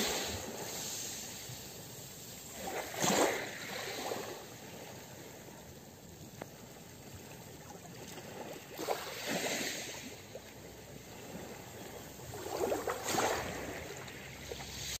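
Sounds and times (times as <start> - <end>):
calm sea wash: 0.0 - 15.0
waves washing over pebbles: 0.0 - 15.0.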